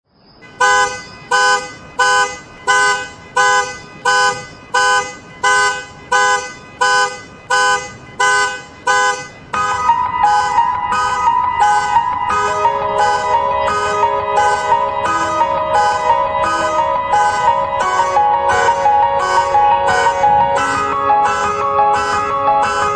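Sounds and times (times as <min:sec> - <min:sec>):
car alarm: 0:00.4 - 0:22.9.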